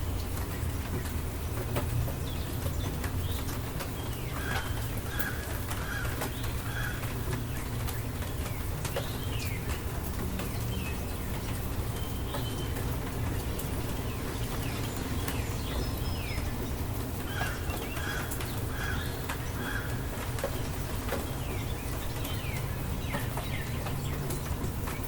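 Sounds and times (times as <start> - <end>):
steady rain: 0.0 - 25.0
birds chirping: 2.1 - 25.0.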